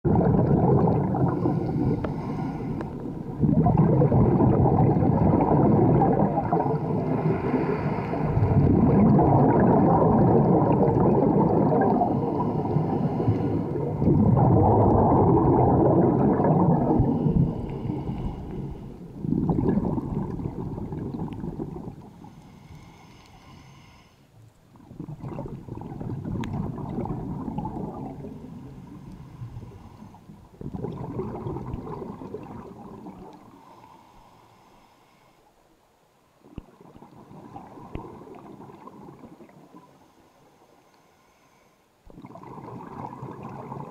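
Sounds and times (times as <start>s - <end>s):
underwater bubbles gurgling: 0.0s - 23.0s, 24.4s - 34.0s, 36.4s - 40.2s, 42.0s - 43.9s.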